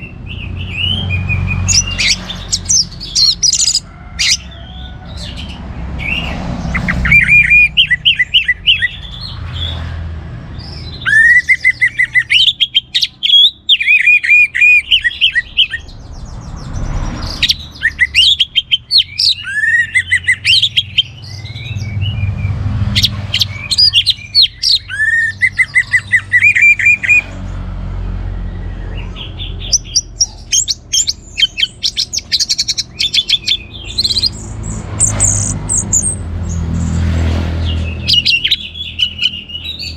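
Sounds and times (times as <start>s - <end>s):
bird singing: 0.0s - 27.6s, 28.3s - 39.9s.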